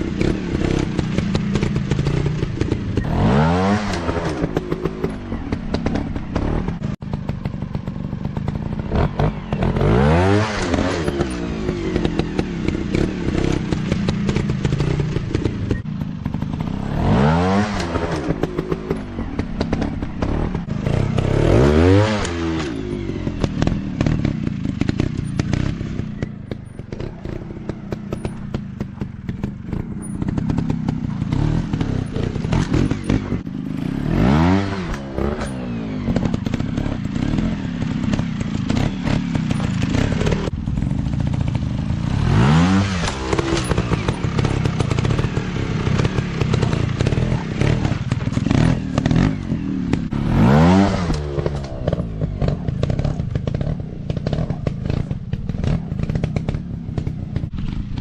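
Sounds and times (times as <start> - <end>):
clatter: 0.0 - 58.0
dirt bike engines revving: 0.0 - 58.0.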